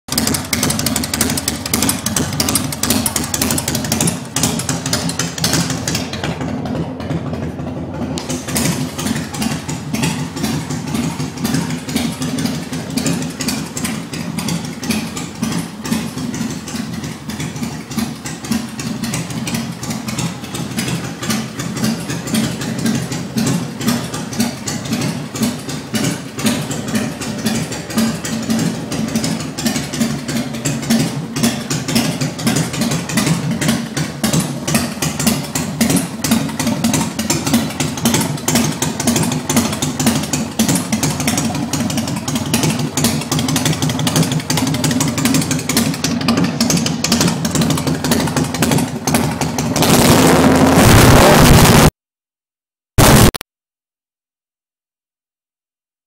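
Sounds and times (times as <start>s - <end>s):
motorcycle engine idling loud: 0.1s - 50.6s.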